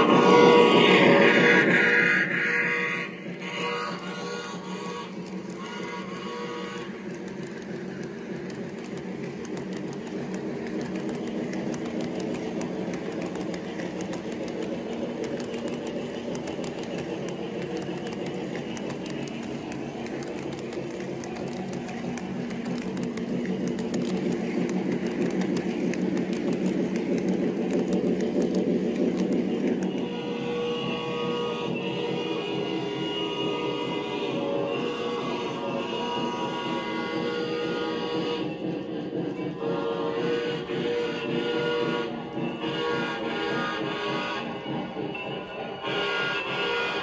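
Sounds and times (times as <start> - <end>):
model train rolling: 0.0 - 32.3, 33.0 - 47.0.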